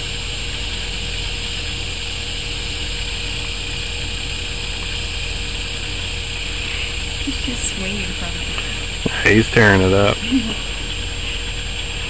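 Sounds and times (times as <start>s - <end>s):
high-pitched hiss: 0.0s - 12.0s
low hum: 0.0s - 12.0s.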